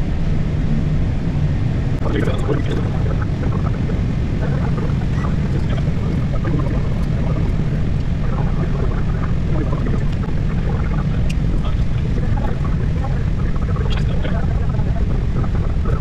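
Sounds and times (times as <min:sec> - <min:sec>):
aircraft cockpit low rumble: 0:00.0 - 0:16.0.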